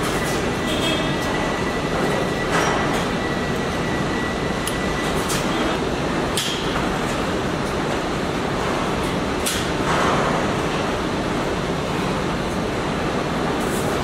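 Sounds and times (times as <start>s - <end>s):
assembly line machinery din: 0.0s - 14.0s.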